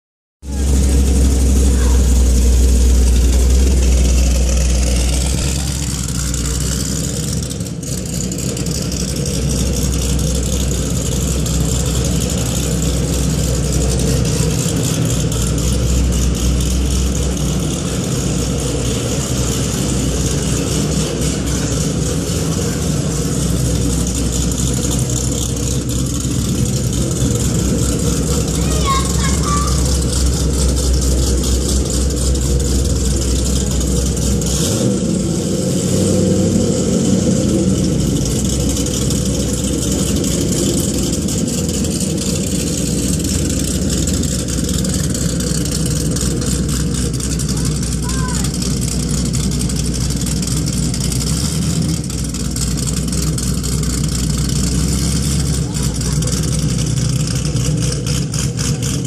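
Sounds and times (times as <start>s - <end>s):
car engine idling: 0.4s - 59.0s.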